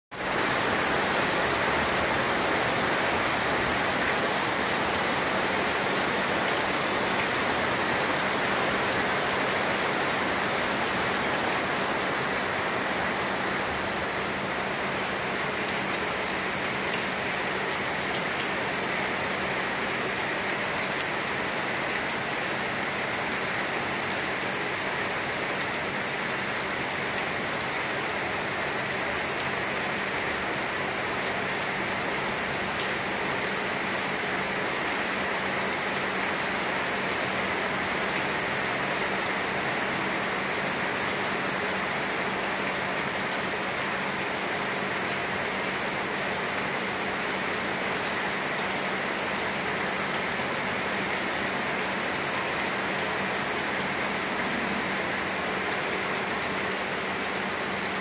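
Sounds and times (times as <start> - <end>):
steady rain on roofs and leaves: 0.1 - 58.0.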